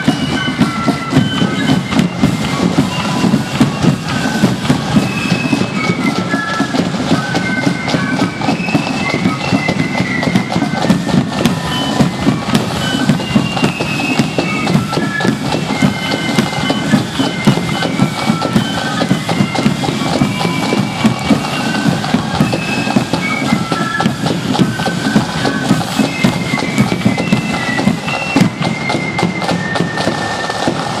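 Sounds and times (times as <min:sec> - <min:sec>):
flute melody: 0:00.0 - 0:31.0
loud drumming: 0:00.0 - 0:31.0.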